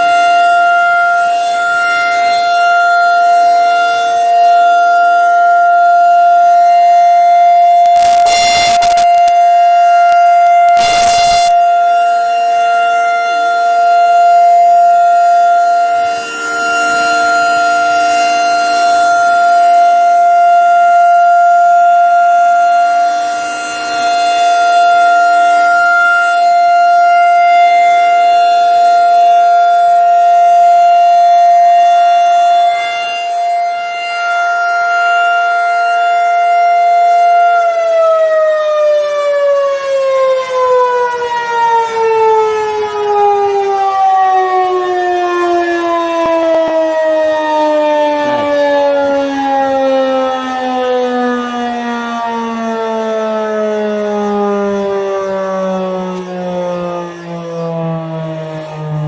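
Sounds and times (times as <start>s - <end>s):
warning siren wailing: 0.0s - 59.0s.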